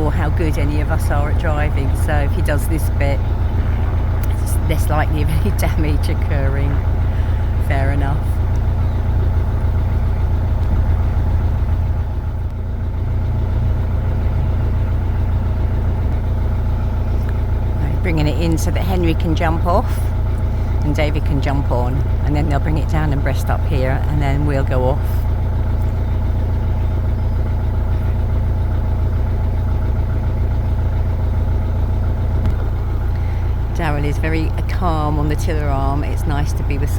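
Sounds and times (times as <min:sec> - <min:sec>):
boat diesel engine running: 0:00.0 - 0:36.9
faint steady hum: 0:00.0 - 0:36.9.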